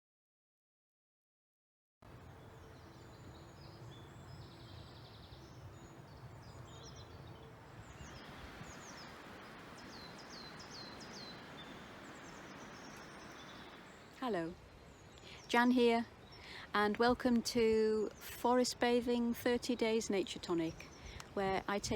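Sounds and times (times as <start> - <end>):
faint woodland birdsong: 2.0 - 21.9
steady background hiss: 2.1 - 21.9.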